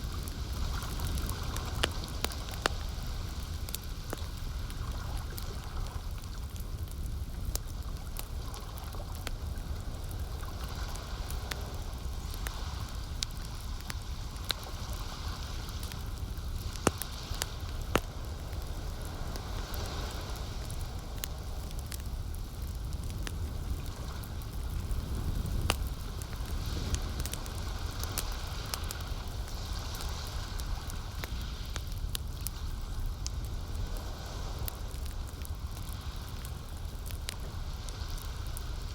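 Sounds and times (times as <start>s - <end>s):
burning wood popping: 0.0s - 38.9s
campfire crackling: 0.0s - 38.9s.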